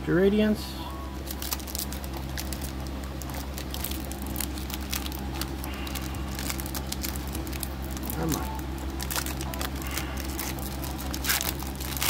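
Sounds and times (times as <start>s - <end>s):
foil wrapper crinkling: 1.2s - 12.0s.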